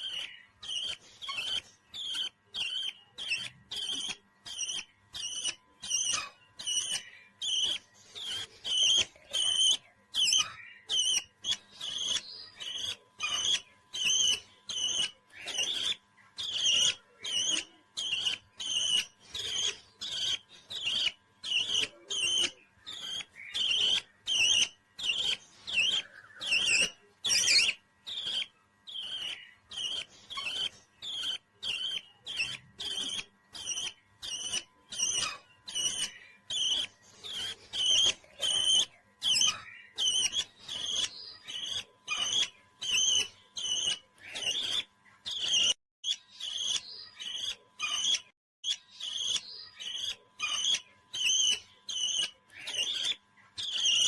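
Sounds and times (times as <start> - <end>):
parrot chirping: 0.0 - 54.0.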